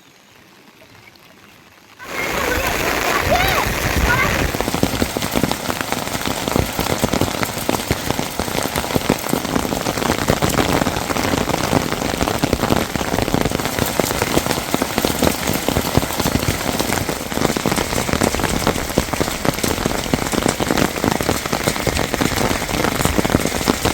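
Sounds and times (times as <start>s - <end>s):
heavy rain: 0.3s - 23.9s.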